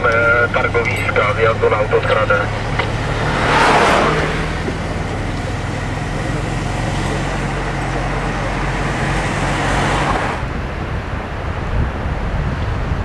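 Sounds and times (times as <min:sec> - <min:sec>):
car engine hum: 0:00.0 - 0:13.0
tyre and wind noise: 0:00.0 - 0:13.0.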